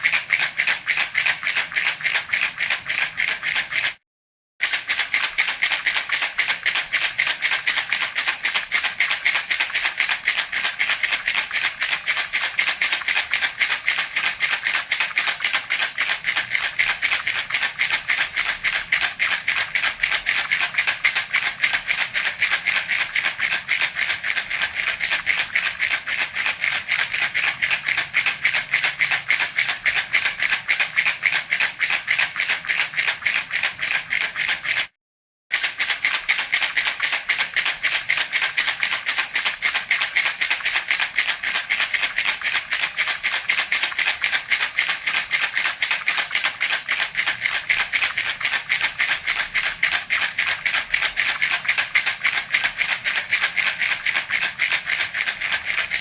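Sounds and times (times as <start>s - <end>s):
baby rattle shaking: 0.0s - 4.0s, 4.6s - 56.0s.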